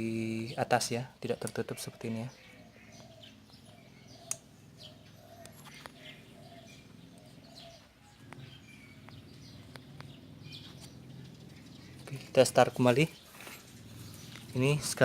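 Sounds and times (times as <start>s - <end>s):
faint bird chirps: 0.0s - 15.0s
repeated cooing call: 1.6s - 14.8s.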